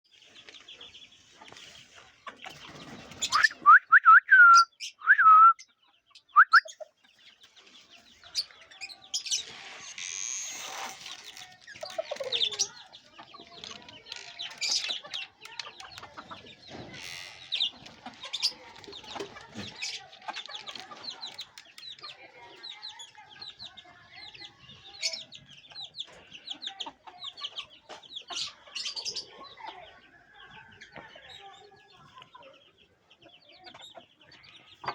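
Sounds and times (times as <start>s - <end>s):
chicks chirping: 0.1s - 3.8s, 4.6s - 34.9s
chickens clucking: 0.1s - 34.9s.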